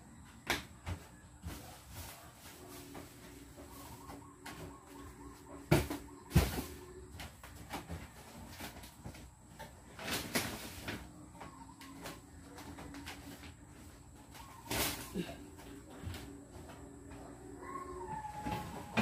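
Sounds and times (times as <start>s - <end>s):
objects knocking and rustling: 0.4s - 17.3s.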